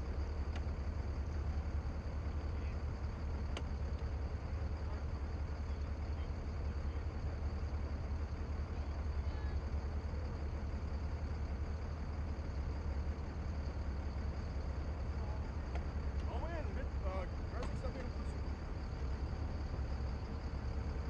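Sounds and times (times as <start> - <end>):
boat engines low rumble: 0.0 - 21.0.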